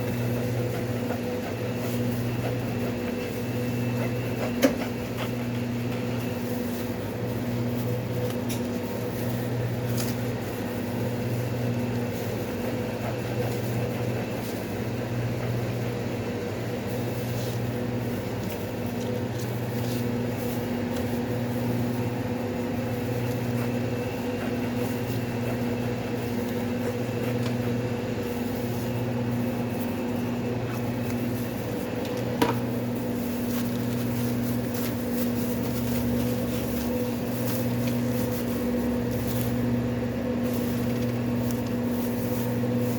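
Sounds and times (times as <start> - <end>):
kitchen appliances humming: 0.0 - 42.9.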